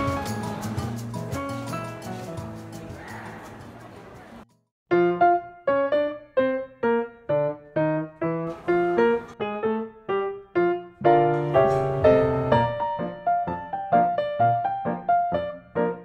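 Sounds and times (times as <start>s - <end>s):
piano music: 0.0s - 3.9s, 4.9s - 16.0s.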